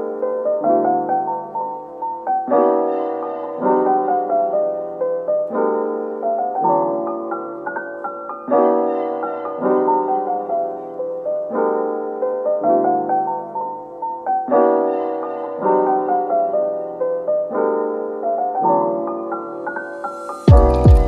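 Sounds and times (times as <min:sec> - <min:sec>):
gentle solo piano: 0:00.0 - 0:21.0.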